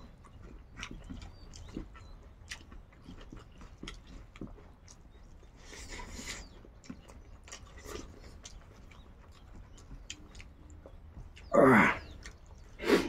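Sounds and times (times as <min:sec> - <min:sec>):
chewing and lip-smacking: 0:00.0 - 0:12.8.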